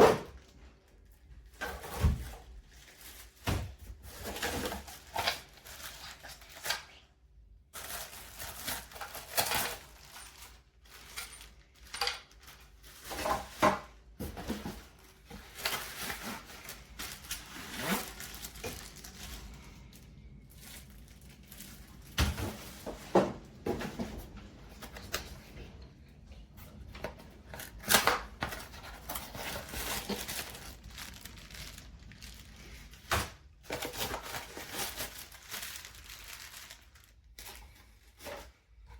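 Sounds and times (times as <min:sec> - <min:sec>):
crinkling rustle: 0:00.5 - 0:38.9.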